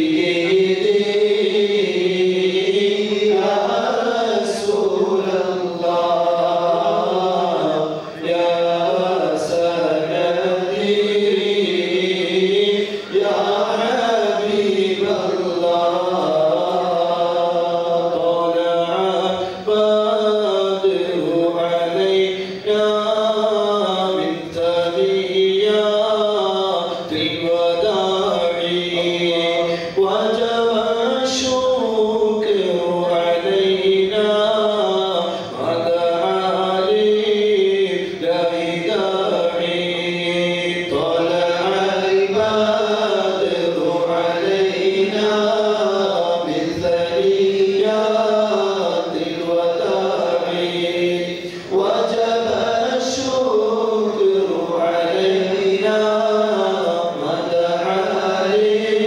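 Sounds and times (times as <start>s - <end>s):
men chanting into microphones: 0.0s - 59.0s.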